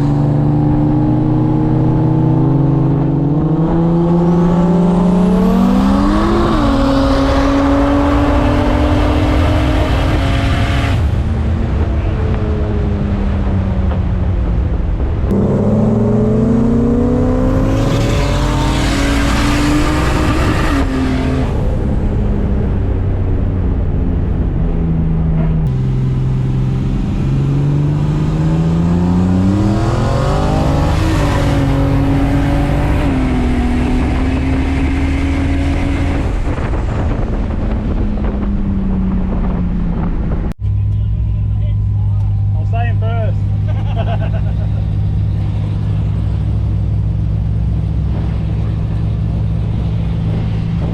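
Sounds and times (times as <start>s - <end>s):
car engine revving and shifting gears: 0.0s - 23.8s, 24.4s - 50.9s.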